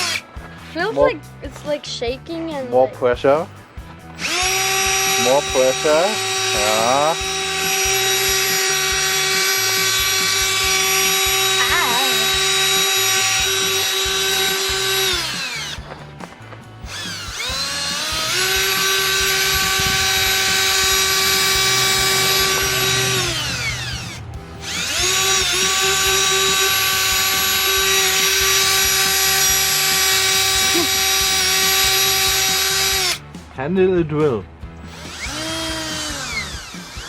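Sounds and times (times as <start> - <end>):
electric drill motor whine: 0.0 - 0.3, 4.2 - 16.1, 16.7 - 33.3, 34.9 - 37.0.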